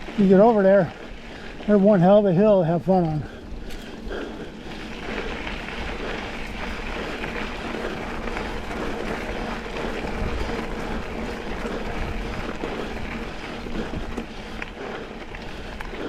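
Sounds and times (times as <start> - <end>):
bike tyres rolling on gravel: 0.0 - 16.0.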